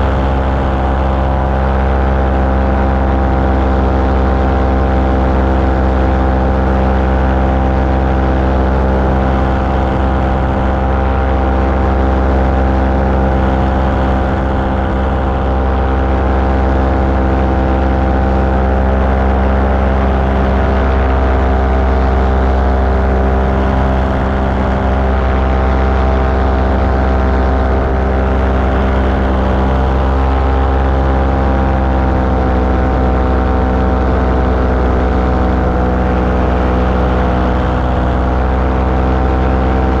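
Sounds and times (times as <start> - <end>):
small aircraft engine in flight: 0.0 - 40.0.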